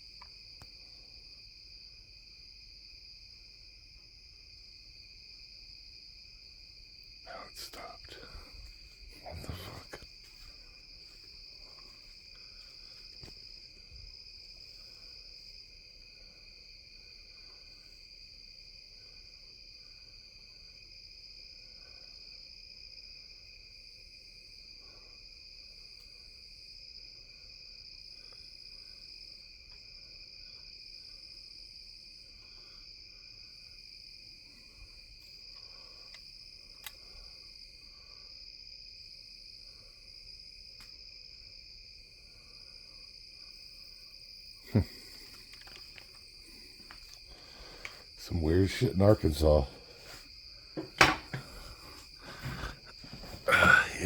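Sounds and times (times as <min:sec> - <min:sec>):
crickets and katydids shrilling: 0:00.0 - 0:54.0.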